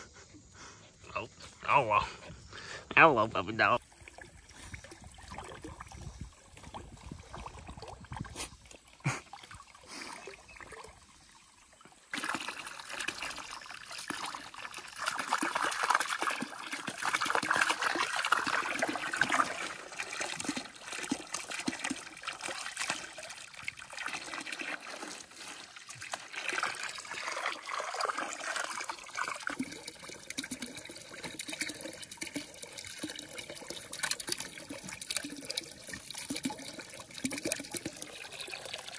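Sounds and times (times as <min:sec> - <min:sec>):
hose water splashing into pool: 0:02.8 - 0:38.9.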